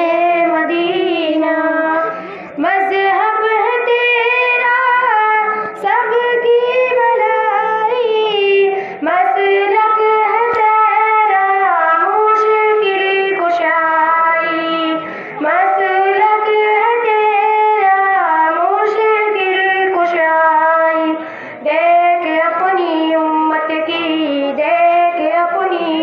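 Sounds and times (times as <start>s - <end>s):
girls singing through microphones: 0.0s - 26.0s.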